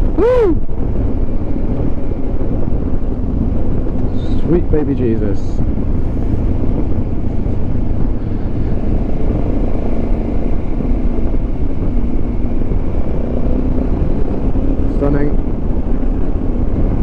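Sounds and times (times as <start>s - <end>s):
motorcycle engine: 0.0s - 17.0s
wind rushing: 0.0s - 17.0s.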